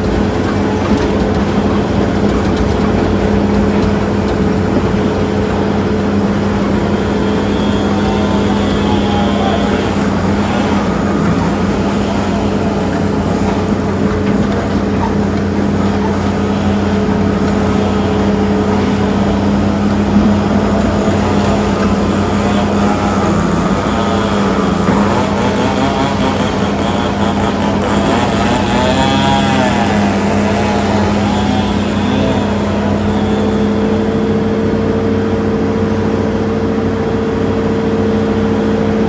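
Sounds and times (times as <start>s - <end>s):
diesel engine running: 0.0s - 39.0s
wavering high whine: 4.1s - 35.6s.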